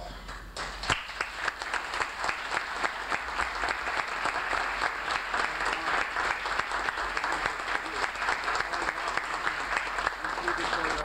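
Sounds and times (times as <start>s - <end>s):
audience applauding: 0.3s - 11.0s.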